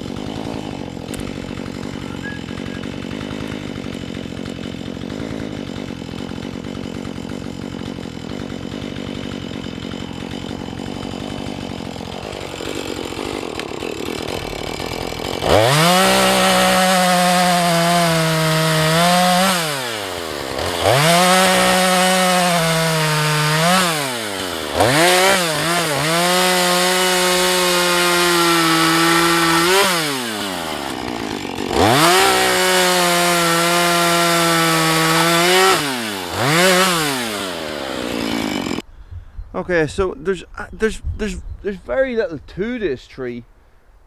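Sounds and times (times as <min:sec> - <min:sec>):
chainsaw cutting wood: 0:00.0 - 0:38.9
chainsaw idling: 0:00.0 - 0:38.9
chainsaw throttle blips: 0:00.0 - 0:38.9.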